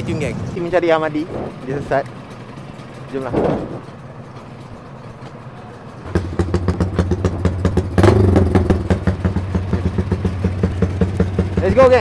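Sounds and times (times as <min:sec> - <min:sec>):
motorcycle engine revving: 0:00.0 - 0:12.0
motorcycle engine running: 0:00.0 - 0:12.0.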